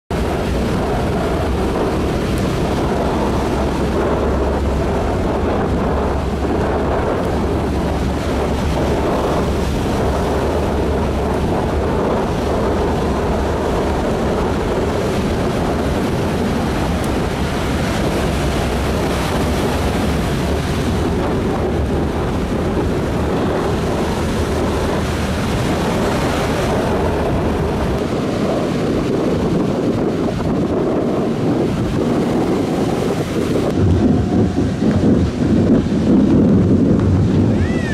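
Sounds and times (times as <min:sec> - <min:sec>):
heavy surf breaking: 0:00.1 - 0:37.9
wind buffeting microphone: 0:00.1 - 0:37.9.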